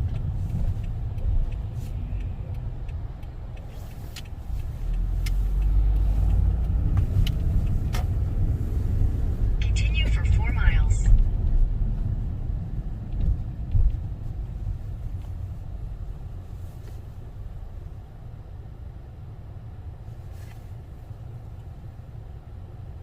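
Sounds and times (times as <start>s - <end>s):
car driving rumble from inside: 0.0s - 23.0s.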